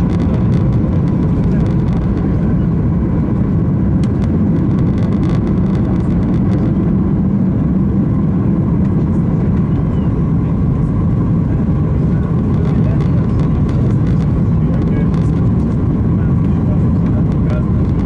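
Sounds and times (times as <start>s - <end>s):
jet engine roar in cabin: 0.0s - 18.0s.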